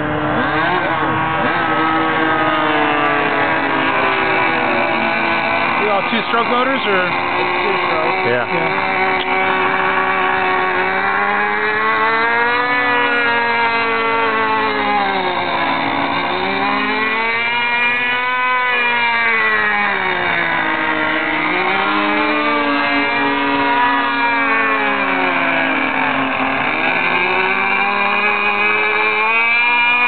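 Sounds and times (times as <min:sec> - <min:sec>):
model plane engine buzzing: 0:00.0 - 0:30.0.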